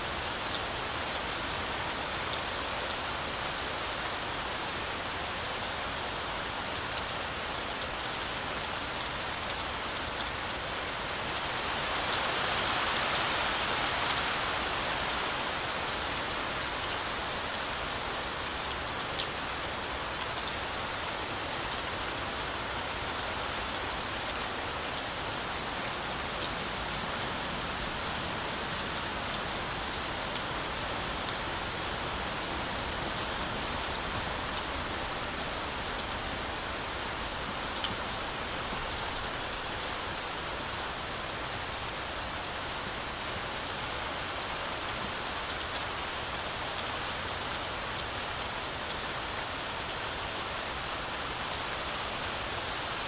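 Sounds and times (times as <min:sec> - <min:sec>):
heavy rain through trees: 0:00.0 - 0:53.0.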